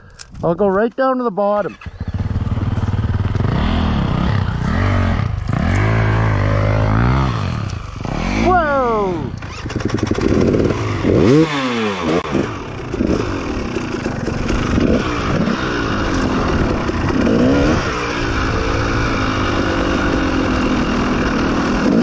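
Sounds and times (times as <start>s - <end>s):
dirt bike engine revving: 1.7s - 22.0s.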